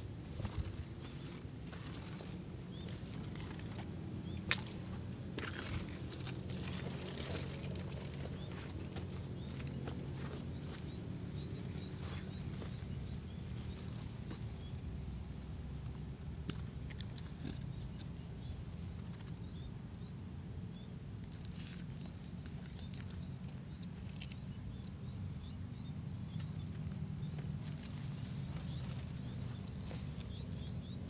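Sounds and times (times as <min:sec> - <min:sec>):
low background rumble: 0:00.0 - 0:31.0
small birds chirping: 0:00.0 - 0:31.0.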